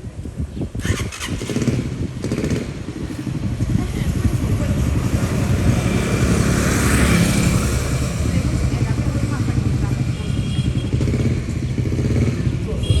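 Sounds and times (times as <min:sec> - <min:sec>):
motorcycle engine running: 0:00.4 - 0:13.0.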